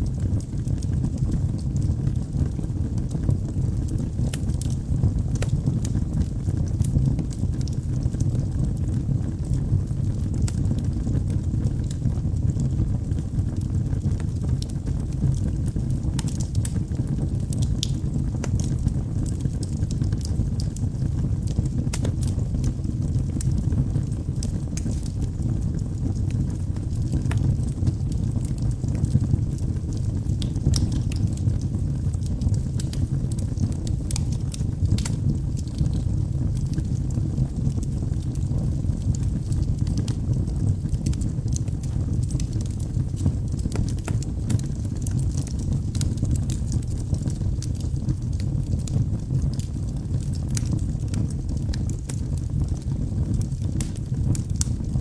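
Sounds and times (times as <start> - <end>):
fire crackles and pops: 0.0 - 55.0
low rumble of flames: 0.0 - 55.0.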